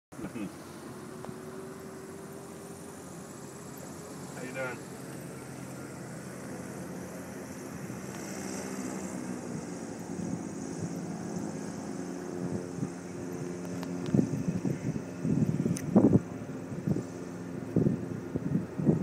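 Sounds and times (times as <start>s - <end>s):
propeller airplane engine droning: 0.1s - 19.0s
wind buffeting microphone: 0.5s - 19.0s.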